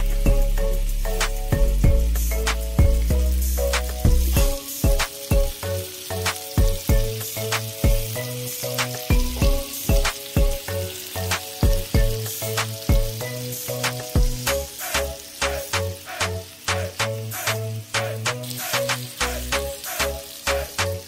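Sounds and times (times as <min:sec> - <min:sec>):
background music with beat: 0:00.0 - 0:21.0
meat sizzling in oil: 0:00.0 - 0:21.0.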